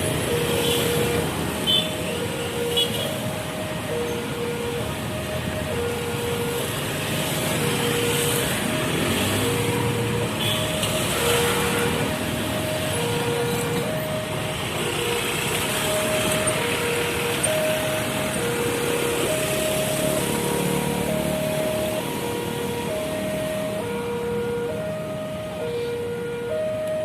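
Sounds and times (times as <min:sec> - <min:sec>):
road traffic noise: 0:00.0 - 0:27.0
two-tone crossing warning siren: 0:00.0 - 0:27.0.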